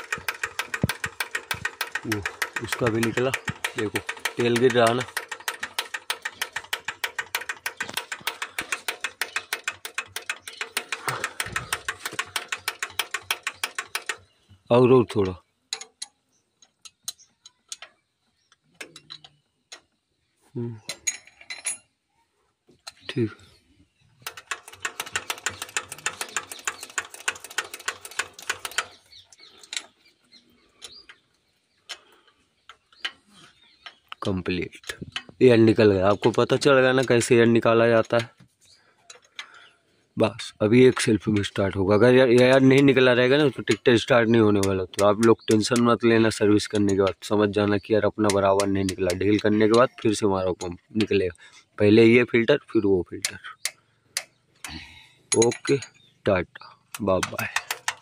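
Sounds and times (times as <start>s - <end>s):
hand priming pump clicking: 0.0s - 14.4s, 15.0s - 20.0s, 24.2s - 51.2s, 52.6s - 56.1s, 56.8s - 58.0s.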